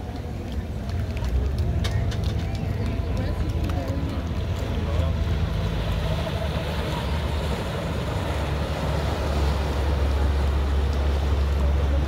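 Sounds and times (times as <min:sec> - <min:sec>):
motorboat engine rumble: 0:00.0 - 0:12.0
water noise: 0:00.0 - 0:12.0.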